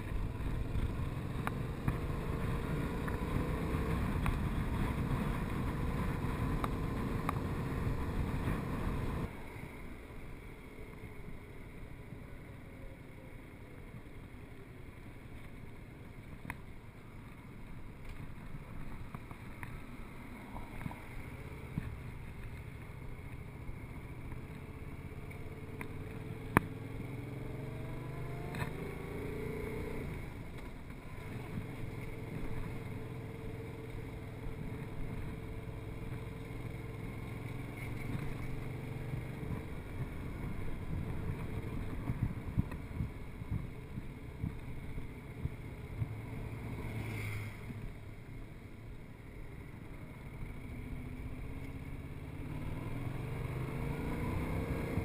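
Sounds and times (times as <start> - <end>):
motorcycle engine running: 0.0 - 16.2, 16.8 - 55.0.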